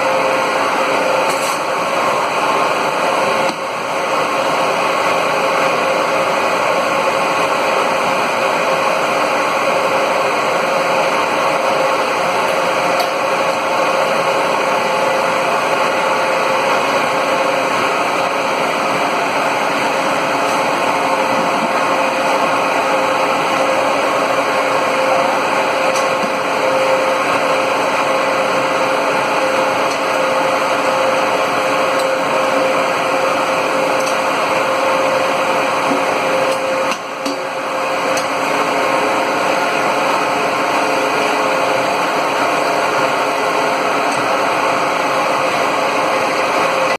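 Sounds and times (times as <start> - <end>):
steam boiler machine hum: 0.0 - 46.9.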